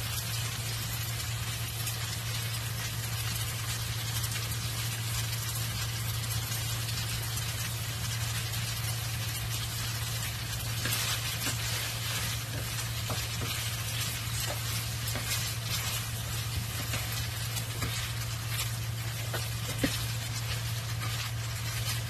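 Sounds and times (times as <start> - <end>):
food sizzling and crackling: 0.0 - 22.0.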